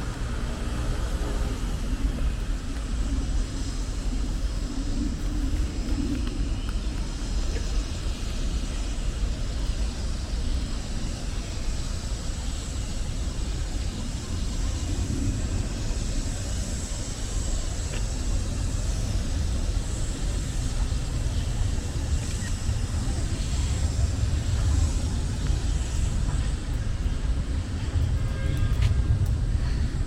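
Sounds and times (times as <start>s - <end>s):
street ambience rumble: 0.0s - 30.0s.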